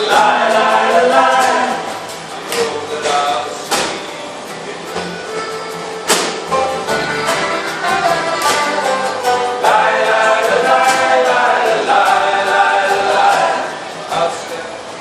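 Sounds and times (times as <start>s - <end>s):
voices singing together: 0.0s - 5.9s, 6.5s - 15.0s
acoustic guitars strumming: 0.0s - 15.0s.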